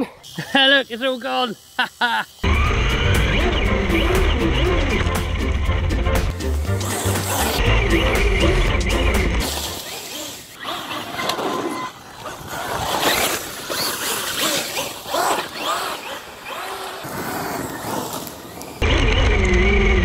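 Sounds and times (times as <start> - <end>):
electric motor whining: 1.6 - 6.1, 6.7 - 20.0.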